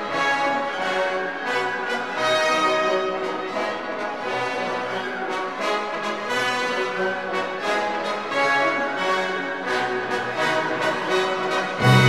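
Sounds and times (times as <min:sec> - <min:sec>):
orchestral music with brass: 0:00.0 - 0:12.0.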